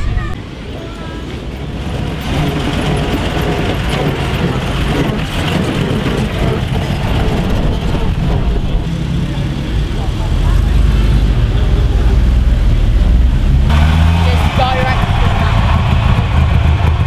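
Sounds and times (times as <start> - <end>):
car engine driving past: 1.4 - 17.0.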